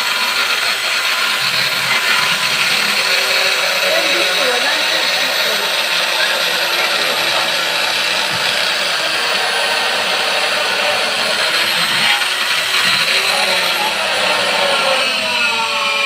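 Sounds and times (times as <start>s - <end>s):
bench drill whirring: 0.0s - 16.0s.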